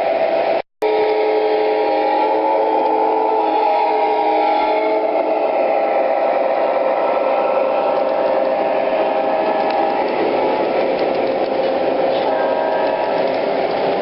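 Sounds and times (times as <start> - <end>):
train horn: 0.0 - 10.7, 11.6 - 13.8
wheels rumbling on rail: 0.0 - 14.0
model train motors whirring: 1.0 - 14.0.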